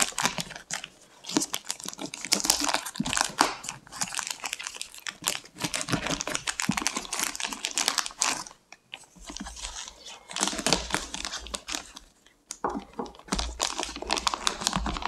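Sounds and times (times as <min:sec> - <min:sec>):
plastic crinkling: 0:00.0 - 0:15.0.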